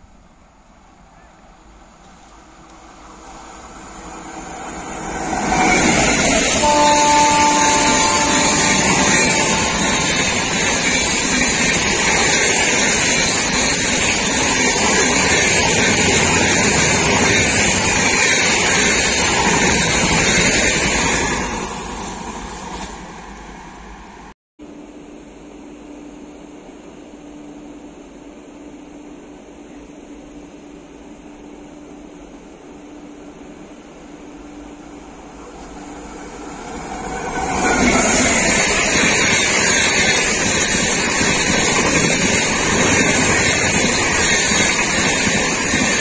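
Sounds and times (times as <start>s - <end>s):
locomotive steady tone: 0.0s - 46.0s
train wheel on rail and wind noise: 0.0s - 46.0s.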